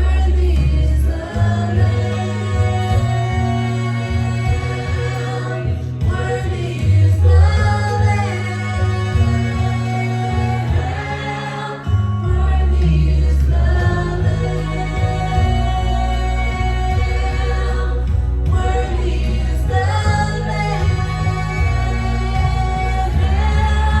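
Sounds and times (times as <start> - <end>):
congregation singing: 0.0 - 24.0
keyboard and bass chords: 0.0 - 24.0.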